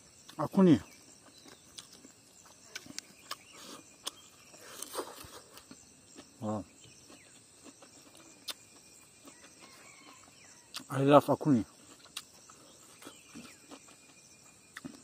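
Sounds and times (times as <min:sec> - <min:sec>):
faint insect drone: 0:00.0 - 0:15.0
person chewing with mouth smacks: 0:01.2 - 0:10.9, 0:11.8 - 0:15.0.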